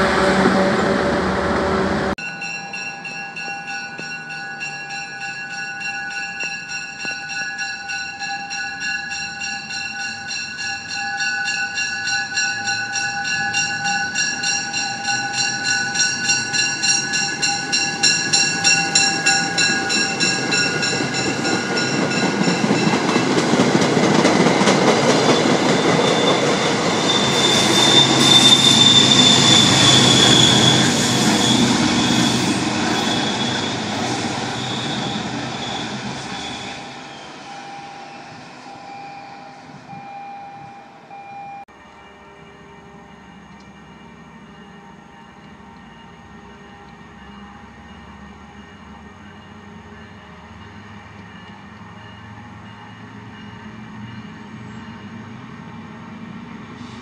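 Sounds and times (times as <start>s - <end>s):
locomotive engine: 0.0s - 57.0s
rhythmic train wheel noise: 0.0s - 57.0s
train wheel squeal: 2.2s - 55.4s.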